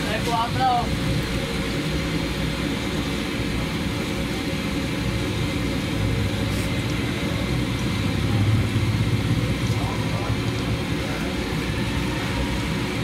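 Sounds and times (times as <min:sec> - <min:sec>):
chicken sizzling in bubbling oil: 0:00.0 - 0:13.0
continuous low rumble: 0:00.0 - 0:13.0.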